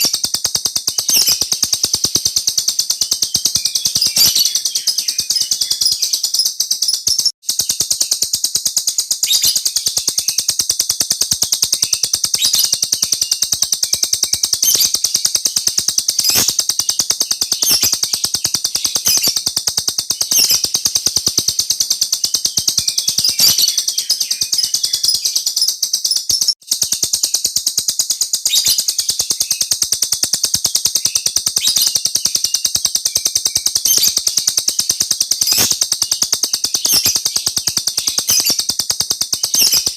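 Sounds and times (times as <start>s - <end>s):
cage bird trilling: 0.0s - 39.9s.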